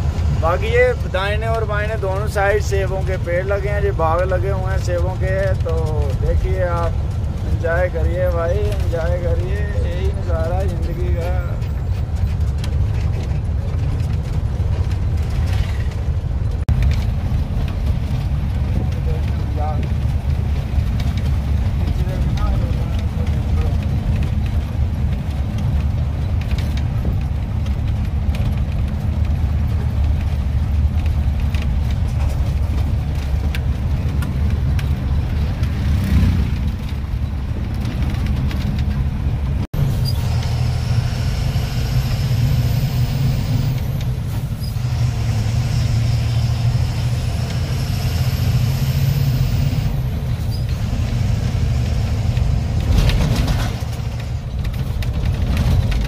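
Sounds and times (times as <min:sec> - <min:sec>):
road noise: 0:00.0 - 0:56.0
truck engine drone: 0:00.0 - 0:56.0.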